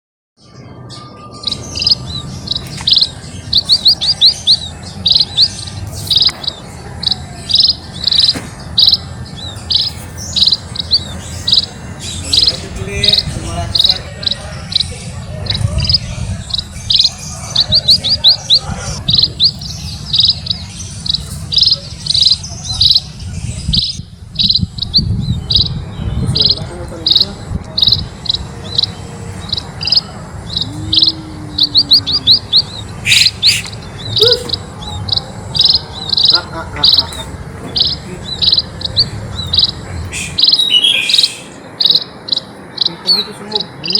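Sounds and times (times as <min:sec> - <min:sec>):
birds chirping: 0:00.4 - 0:43.9.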